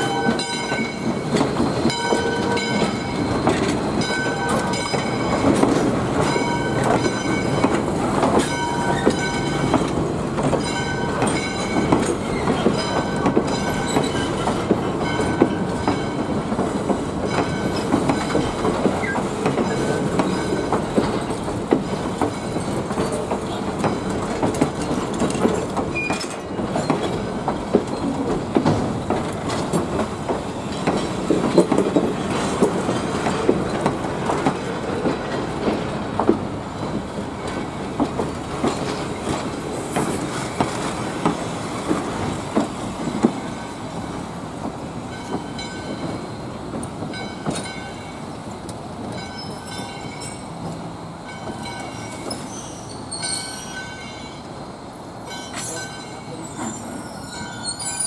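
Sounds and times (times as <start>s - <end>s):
train wheels clicking over rail joints: 0.0s - 58.0s.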